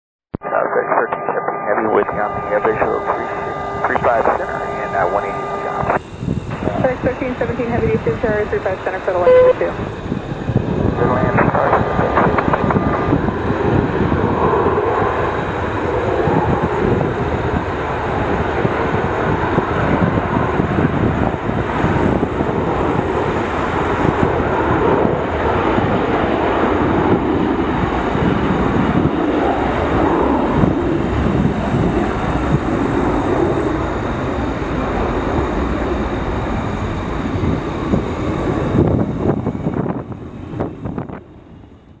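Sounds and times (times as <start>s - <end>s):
jet engines landing rumble: 0.3s - 42.0s.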